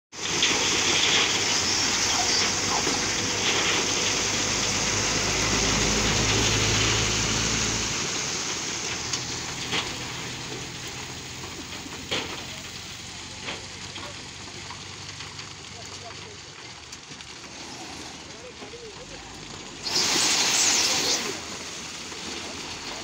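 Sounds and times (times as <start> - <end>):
rock and gravel tumbling: 0.1 - 23.0
truck engine running: 0.2 - 23.0.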